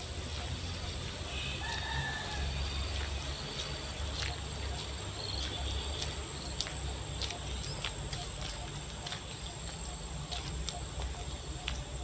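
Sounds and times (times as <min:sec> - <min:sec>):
high-pitched insect chorus: 0:00.0 - 0:12.0
bird chirps: 0:00.3 - 0:12.0.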